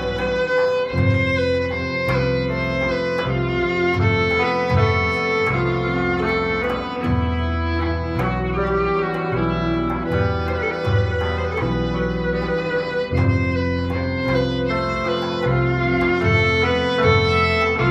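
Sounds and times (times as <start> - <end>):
bowed violin melody: 0.0 - 17.9
electric guitar notes: 0.0 - 17.9.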